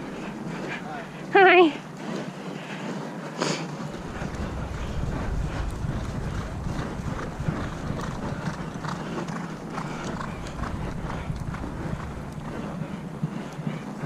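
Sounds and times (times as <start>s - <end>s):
wind on microphone: 0.0s - 2.7s, 3.7s - 14.0s.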